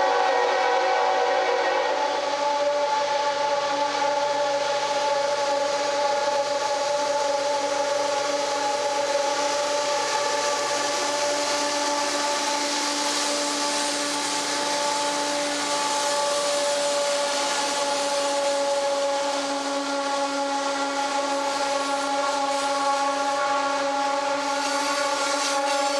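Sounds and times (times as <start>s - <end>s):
hiss of rushing air: 0.0s - 25.9s
locomotive turbo whine: 0.0s - 25.9s.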